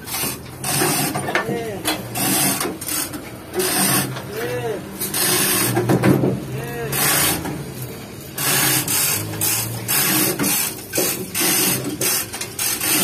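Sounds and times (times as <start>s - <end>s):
chain hoist ratcheting: 0.0s - 6.0s, 6.7s - 7.6s, 8.2s - 13.0s.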